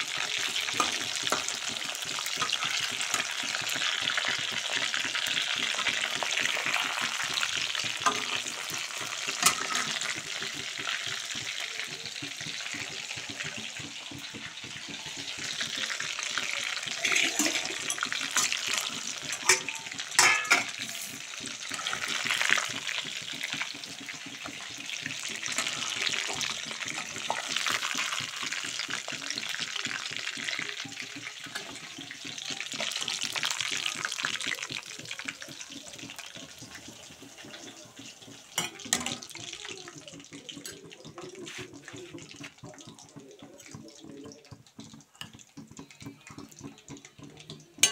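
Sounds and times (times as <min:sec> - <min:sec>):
meatballs sizzling in hot oil: 0:00.0 - 0:47.9.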